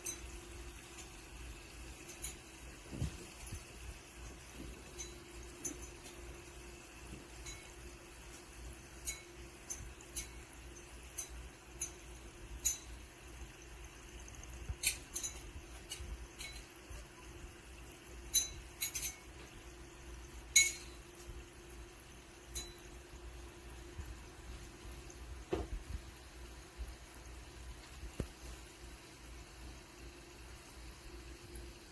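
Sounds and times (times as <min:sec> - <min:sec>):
water fizzing: 0:00.0 - 0:31.9.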